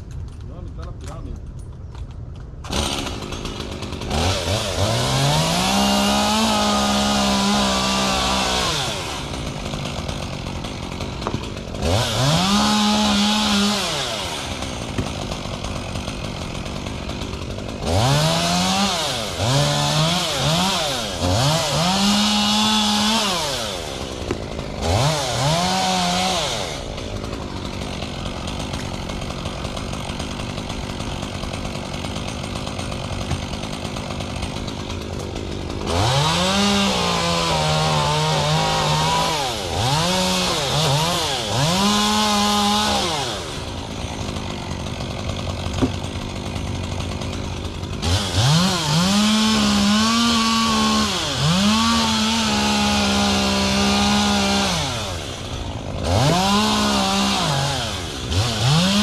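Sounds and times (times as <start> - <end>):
chainsaw idling: 0.0 - 59.0
chainsaw revving while cutting: 2.7 - 59.0.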